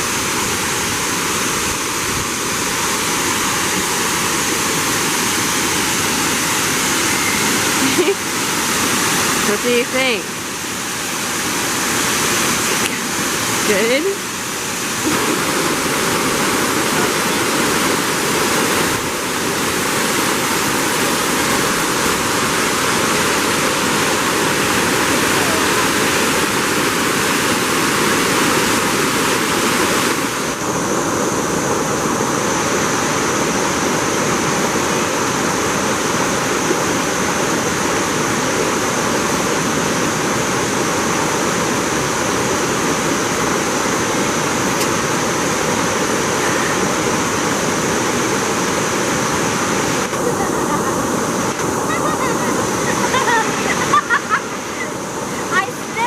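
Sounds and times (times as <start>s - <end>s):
steady high hiss: 0.0s - 56.0s
waterfall rushing: 0.0s - 56.0s.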